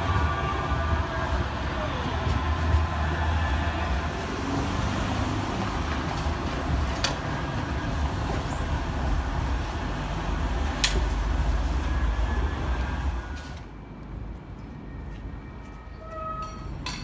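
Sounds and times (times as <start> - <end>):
city street noise: 0.0 - 17.0
tram rumbling on tracks: 0.0 - 17.0.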